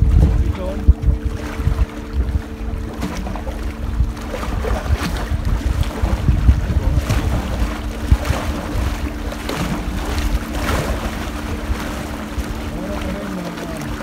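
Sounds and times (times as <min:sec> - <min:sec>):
steady low hum: 0:00.0 - 0:14.0
waves splashing against hull: 0:00.0 - 0:14.0
wind buffeting microphone: 0:00.0 - 0:14.0.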